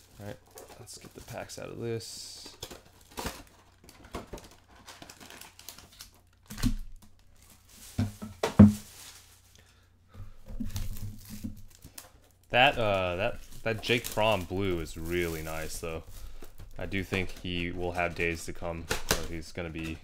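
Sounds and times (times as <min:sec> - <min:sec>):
card pack wrappers crinkling: 0:00.0 - 0:09.6, 0:10.6 - 0:20.0.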